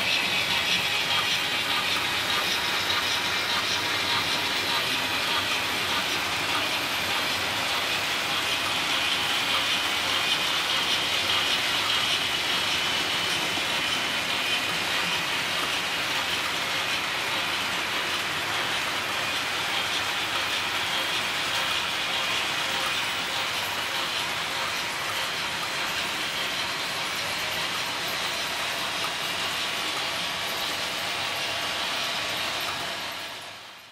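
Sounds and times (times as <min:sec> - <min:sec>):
model trains whirring and rattling: 0:00.0 - 0:33.9.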